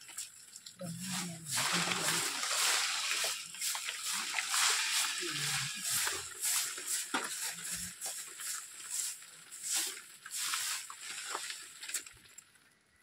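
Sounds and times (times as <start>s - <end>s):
water splashing and sloshing: 0.0s - 12.6s.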